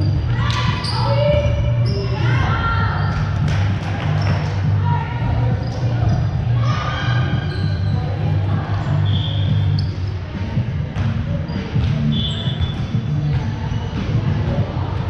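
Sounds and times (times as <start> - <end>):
sneaker squeaks: 0.0 - 3.4, 4.0 - 14.7
murmur of voices: 0.0 - 15.0.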